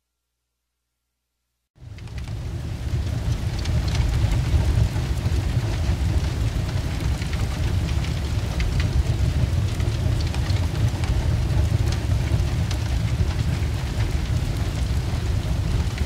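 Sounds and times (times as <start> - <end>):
fire crackling and popping: 1.8 - 16.0
large fire roaring: 1.8 - 16.0.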